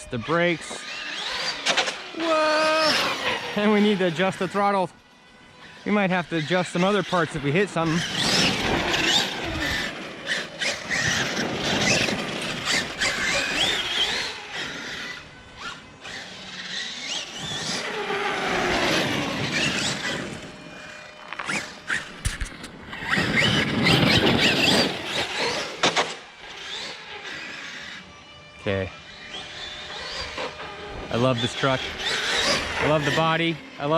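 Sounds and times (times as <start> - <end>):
driving noise: 0.0 - 33.9
electric motor whining: 0.0 - 33.9.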